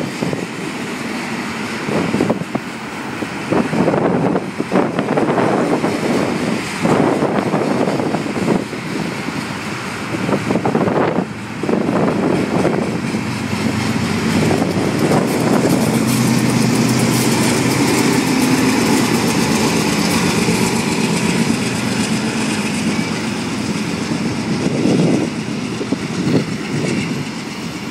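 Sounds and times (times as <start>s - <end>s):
locomotive engine drone: 0.0s - 27.9s
train cars rumbling past: 0.0s - 27.9s.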